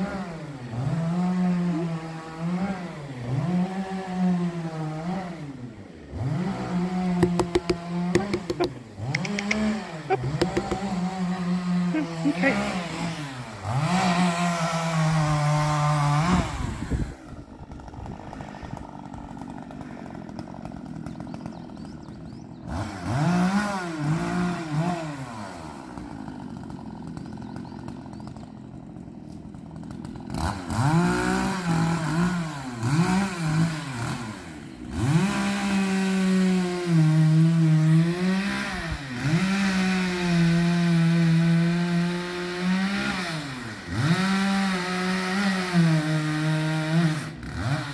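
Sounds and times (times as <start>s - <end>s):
chainsaw cutting wood: 0.0s - 47.9s
chainsaw idling: 0.0s - 47.9s.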